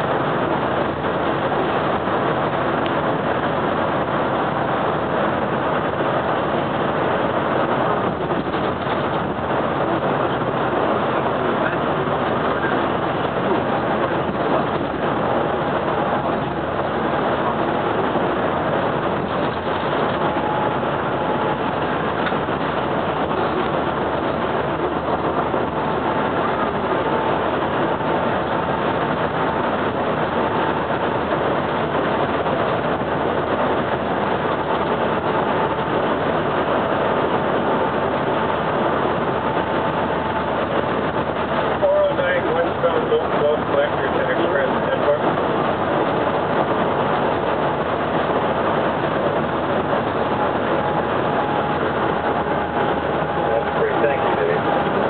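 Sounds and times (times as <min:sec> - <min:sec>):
bus engine and road noise: 0:00.0 - 0:55.0
faint steady whine: 0:00.0 - 0:55.0.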